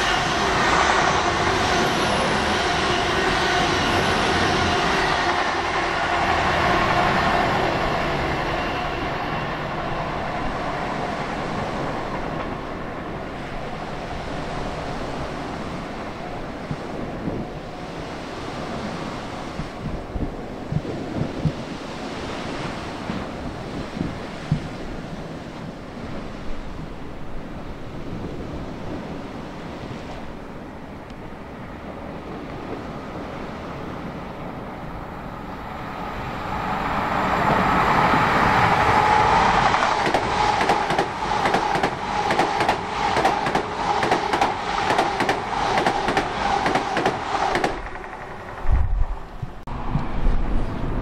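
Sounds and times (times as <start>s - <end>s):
sea wash: 0.0s - 48.8s
train passing at speed: 0.0s - 51.0s
wind: 0.0s - 51.0s.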